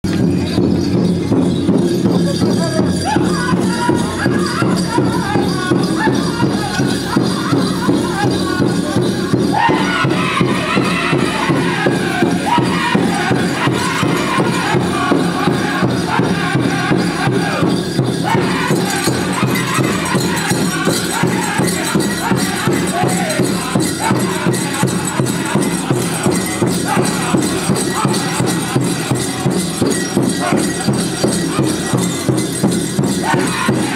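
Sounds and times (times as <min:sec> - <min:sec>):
jingling leg bells: 0:00.0 - 0:33.9
steady drumbeat: 0:00.0 - 0:33.9
group singing: 0:03.0 - 0:33.9.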